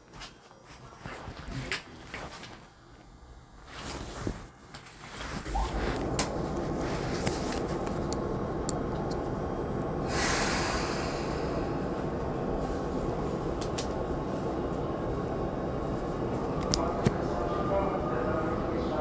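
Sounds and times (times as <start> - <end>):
train car hum: 0.0 - 19.0.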